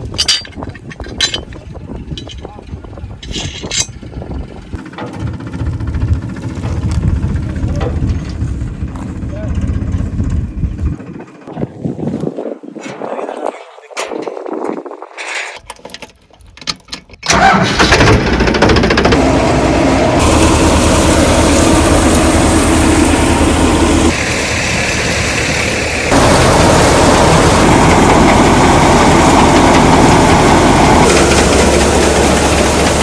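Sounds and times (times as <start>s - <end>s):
tractor diesel engine running: 0.0s - 2.4s, 3.3s - 11.7s, 17.3s - 33.0s.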